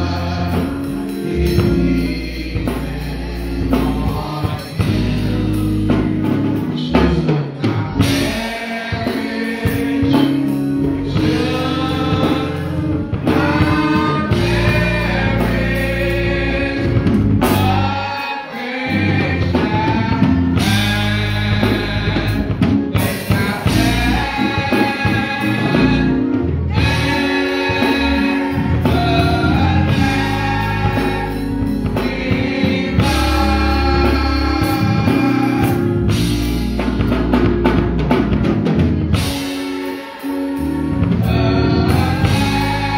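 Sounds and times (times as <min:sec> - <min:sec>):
drum kit: 0:00.0 - 0:42.9
gospel choir singing: 0:00.0 - 0:42.9.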